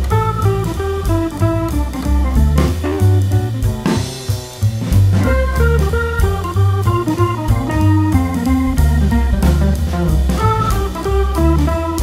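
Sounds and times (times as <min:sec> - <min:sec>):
jazzy organ music with bass and drums: 0:00.0 - 0:12.0.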